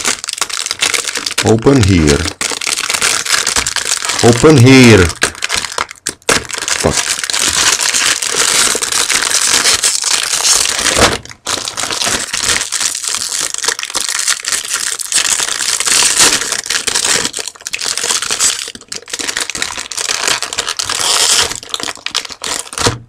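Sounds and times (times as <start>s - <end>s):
snack wrapper crinkling: 0.0s - 23.0s.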